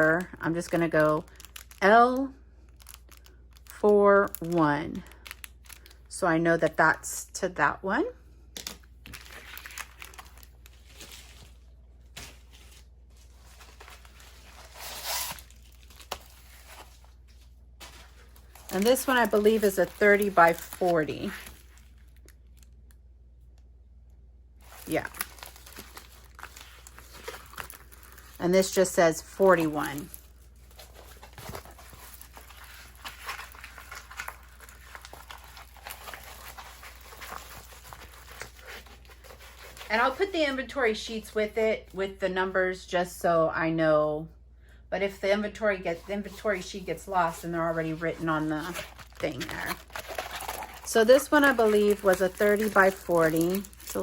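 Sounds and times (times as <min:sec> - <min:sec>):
plastic packaging rustling: 0:00.0 - 0:06.1, 0:08.5 - 0:22.9, 0:24.6 - 0:40.4, 0:45.9 - 0:54.0.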